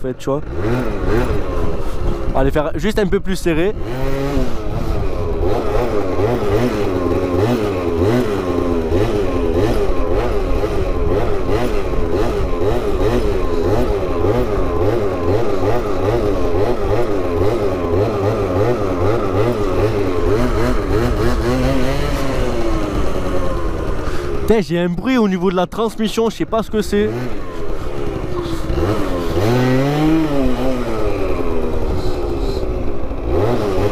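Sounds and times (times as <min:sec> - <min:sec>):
scooter engine revving: 0:00.1 - 0:33.9.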